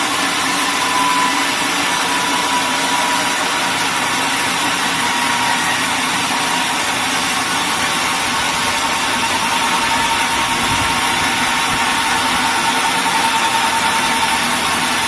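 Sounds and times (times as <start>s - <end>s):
high mechanical whine: 0.0s - 15.0s
sawmill machinery running: 0.0s - 15.0s.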